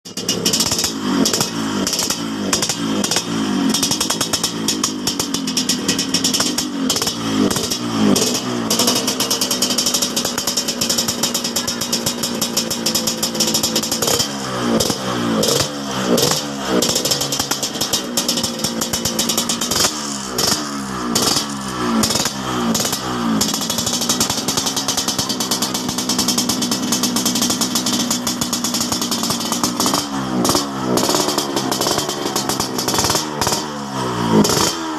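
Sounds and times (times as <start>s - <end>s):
two-stroke motorcycle engine revving: 0.0s - 34.9s.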